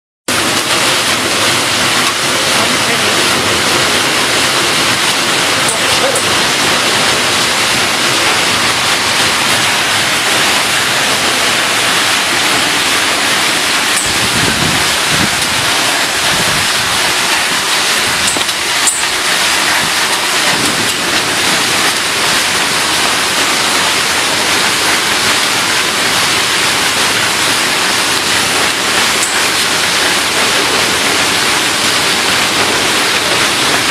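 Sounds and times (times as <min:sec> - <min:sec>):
machine and conveyor rushing: 0:00.3 - 0:33.9.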